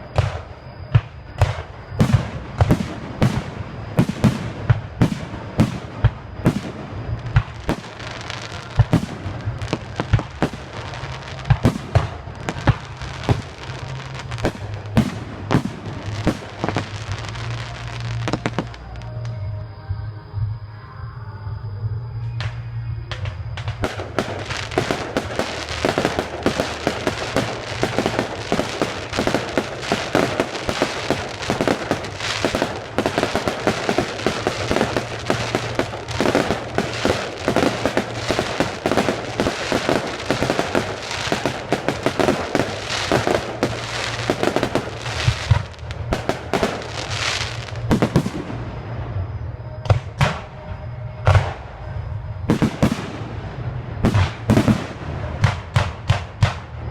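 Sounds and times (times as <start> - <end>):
loud firework bangs: 0.0 - 18.8, 23.1 - 48.9, 52.5 - 56.8
fireworks bursting and crackling: 0.0 - 19.5, 22.3 - 56.9.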